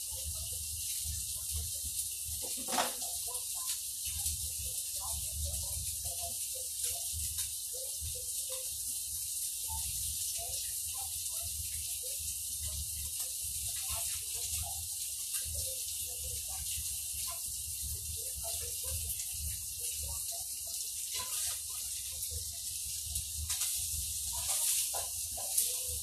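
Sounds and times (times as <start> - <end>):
fish frying in oil: 0.0 - 26.0.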